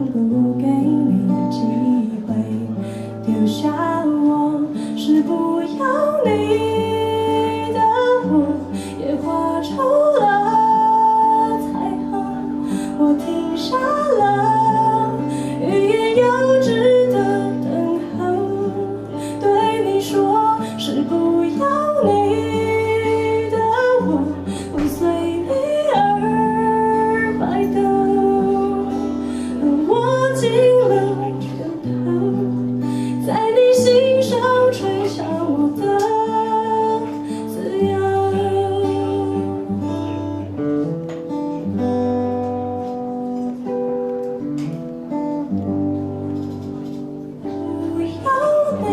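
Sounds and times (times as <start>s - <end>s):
person singing: 0.0s - 40.5s, 47.4s - 48.9s
guitar: 0.0s - 48.9s.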